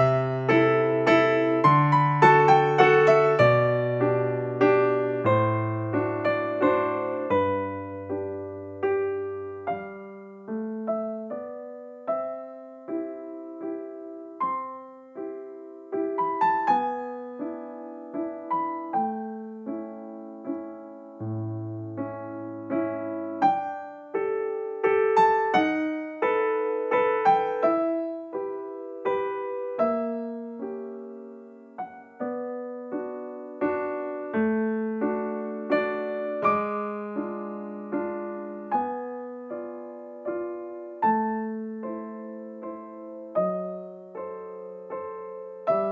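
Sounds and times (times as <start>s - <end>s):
gentle piano music: 0.0s - 45.9s.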